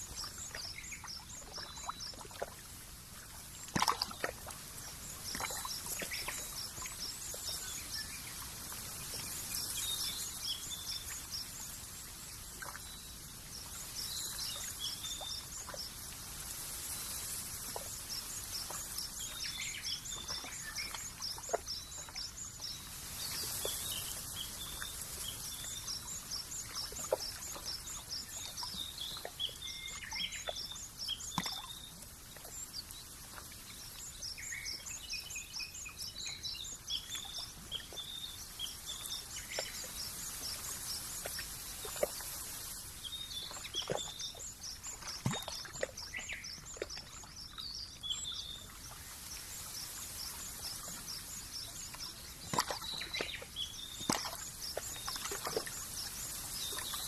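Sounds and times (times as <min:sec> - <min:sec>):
steady outdoor hiss: 0:00.0 - 0:57.0
small birds chirping: 0:04.9 - 0:57.0.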